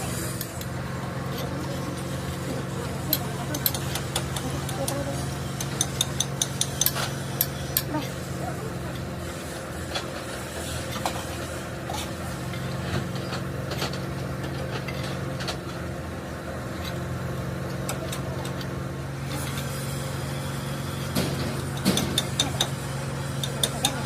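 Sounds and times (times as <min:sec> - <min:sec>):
small engine idling: 0:00.0 - 0:24.0.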